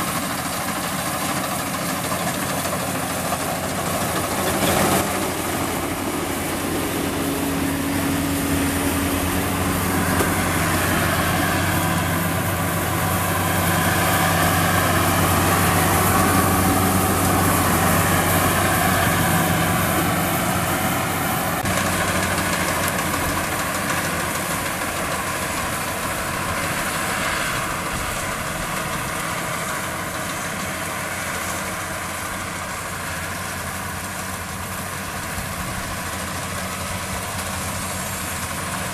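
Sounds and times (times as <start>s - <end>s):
harvester engine drone: 0.0s - 38.9s.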